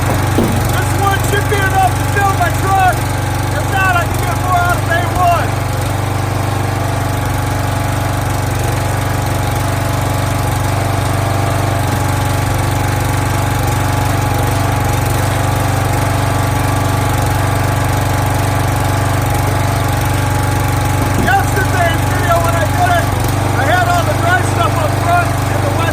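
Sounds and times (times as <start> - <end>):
small gas engine running: 0.0 - 25.9.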